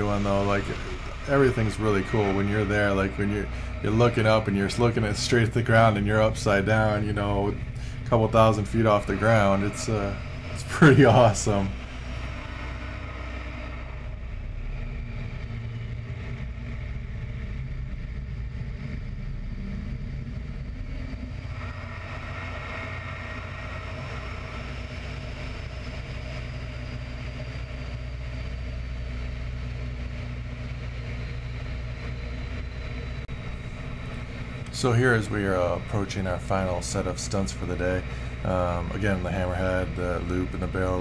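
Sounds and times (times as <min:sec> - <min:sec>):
radial engine running: 0:00.0 - 0:41.0.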